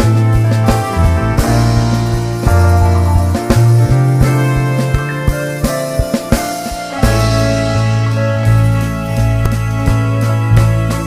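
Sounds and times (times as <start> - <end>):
music with a steady beat: 0.0 - 11.0.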